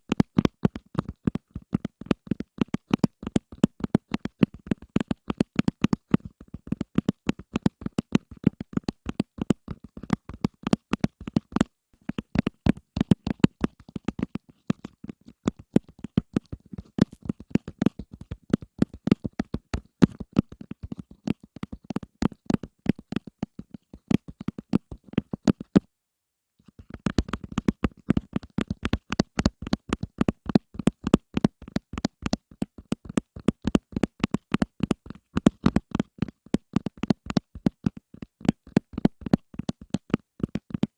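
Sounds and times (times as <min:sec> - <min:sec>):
rapid soft tapping: 0:00.0 - 0:25.9, 0:26.6 - 0:40.9.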